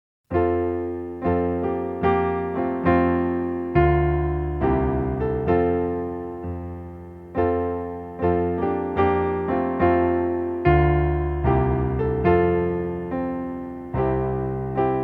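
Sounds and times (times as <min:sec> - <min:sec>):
slow solo piano chords: 0:00.3 - 0:15.0.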